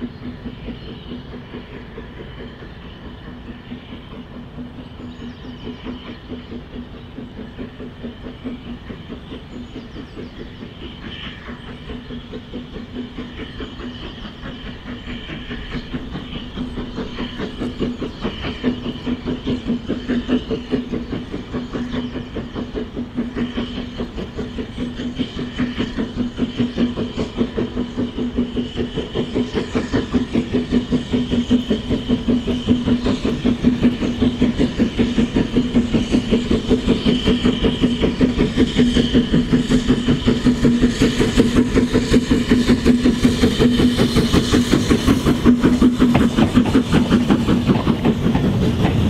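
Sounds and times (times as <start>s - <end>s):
train wheels clattering over rail joints: 0.0s - 49.0s.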